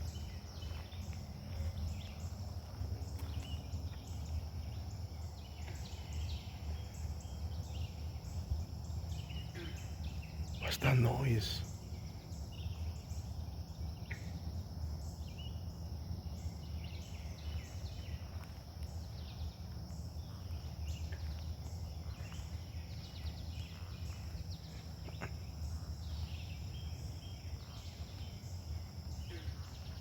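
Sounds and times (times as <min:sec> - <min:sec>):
insects droning and chirping: 0:00.0 - 0:30.0.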